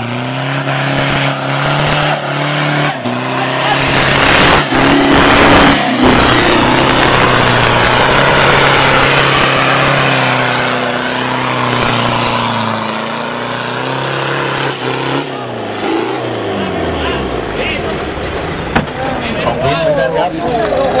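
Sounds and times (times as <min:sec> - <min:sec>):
diesel engine running hard: 0:00.0 - 0:21.0.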